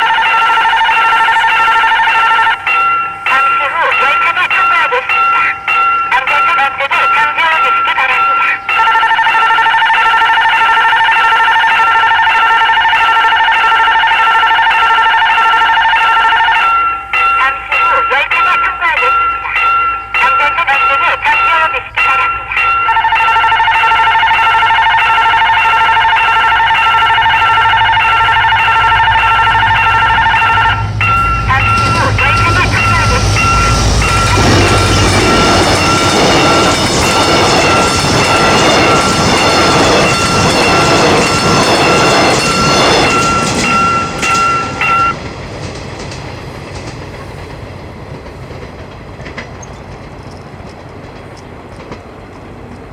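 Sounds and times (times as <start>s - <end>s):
level crossing warning bell: 0.0s - 45.8s
passenger train running: 0.0s - 52.9s.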